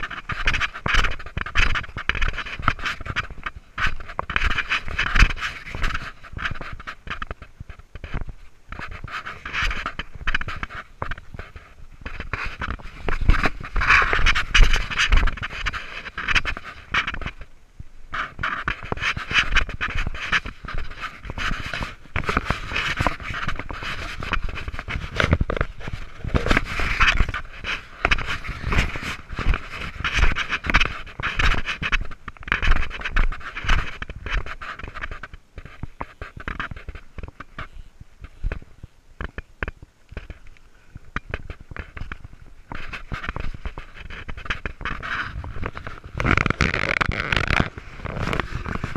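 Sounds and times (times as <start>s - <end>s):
brush scraping clothing: 0.0s - 17.5s, 18.1s - 38.6s, 41.2s - 48.9s.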